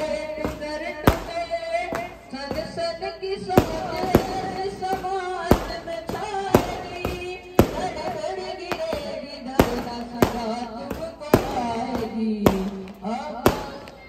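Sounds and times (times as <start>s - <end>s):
firecrackers banging: 0.0s - 14.0s
person singing devotional verse: 0.0s - 14.0s.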